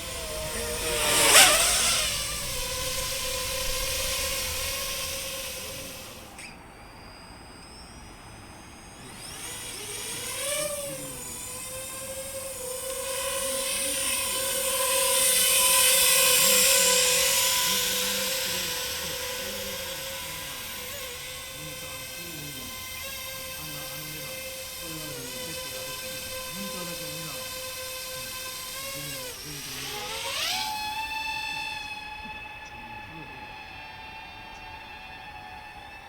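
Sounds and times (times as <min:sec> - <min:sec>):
drone propellers whining: 0:00.0 - 0:36.0.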